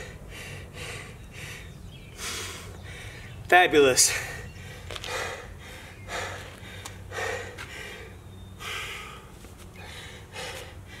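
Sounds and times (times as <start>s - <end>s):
man breathing hard: 0.0s - 3.4s, 4.0s - 11.0s.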